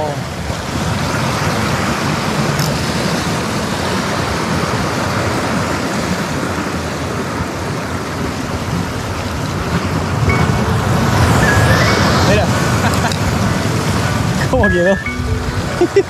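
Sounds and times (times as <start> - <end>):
sea surf washing on shore: 0.0 - 16.0.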